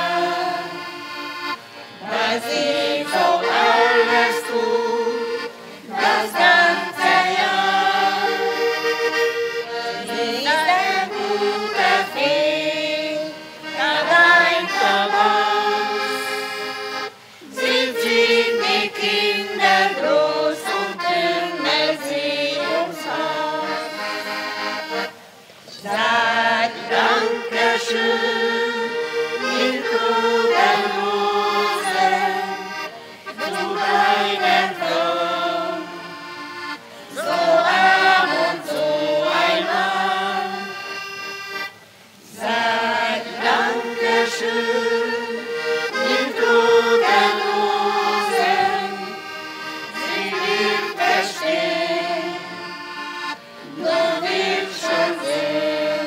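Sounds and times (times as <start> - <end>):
accordion folk tune: 0.0 - 56.0.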